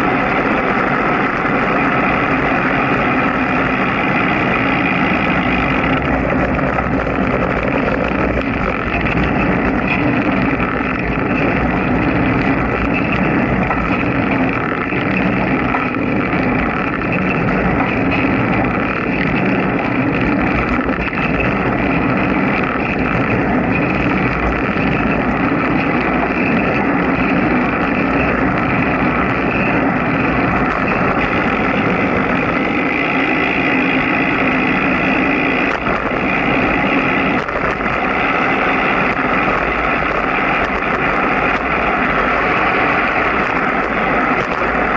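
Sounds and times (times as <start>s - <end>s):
constant hum: 0.0s - 44.9s
road travel noise: 0.0s - 44.9s.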